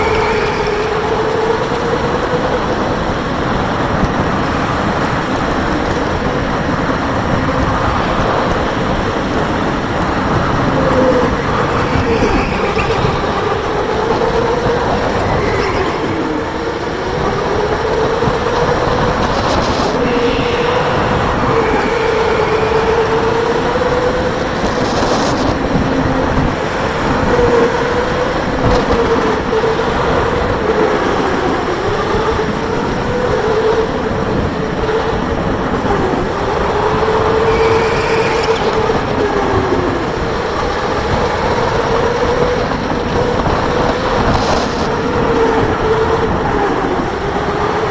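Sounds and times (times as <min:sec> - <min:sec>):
tyre and wind rumble: 0:00.0 - 0:47.9.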